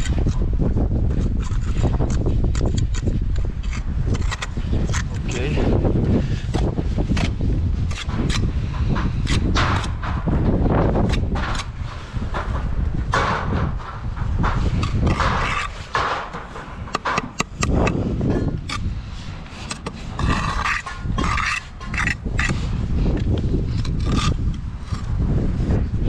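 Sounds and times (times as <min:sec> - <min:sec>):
steady low rumble: 0:00.0 - 0:26.0
trowel scraping bricks and mortar: 0:00.0 - 0:26.0
sharp clicks and knocks: 0:01.1 - 0:05.4, 0:06.5 - 0:18.9, 0:19.6 - 0:25.2.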